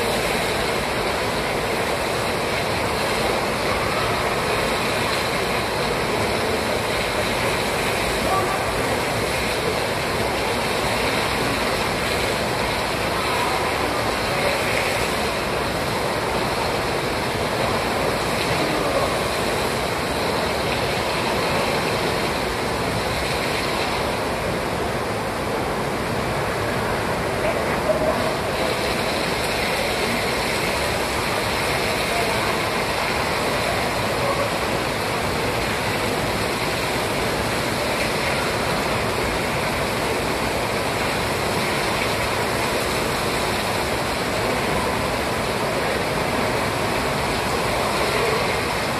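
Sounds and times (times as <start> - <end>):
water rushing: 0.0 - 48.9.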